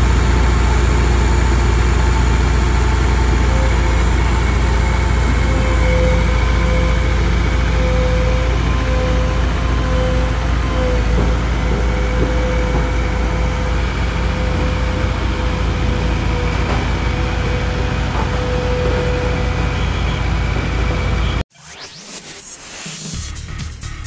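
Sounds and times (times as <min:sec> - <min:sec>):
diesel roller engine humming: 0:00.0 - 0:21.4.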